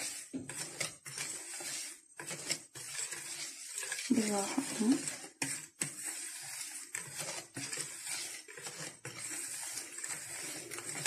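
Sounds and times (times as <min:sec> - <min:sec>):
whisk swishing through batter: 0:00.0 - 0:11.0.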